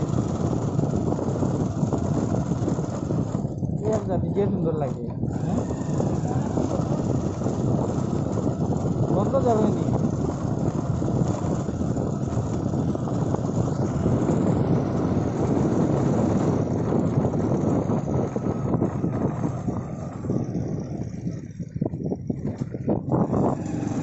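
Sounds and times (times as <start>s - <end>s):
motorbike engine running: 0.0s - 24.0s
wind buffeting microphone: 0.0s - 24.0s.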